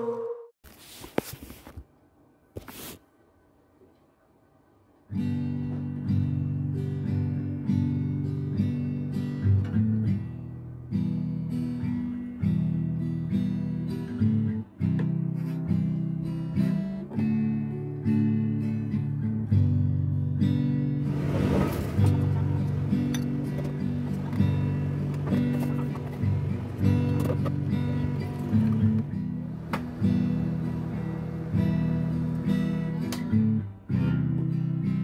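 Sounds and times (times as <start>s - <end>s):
acoustic guitar playing: 5.1s - 35.0s.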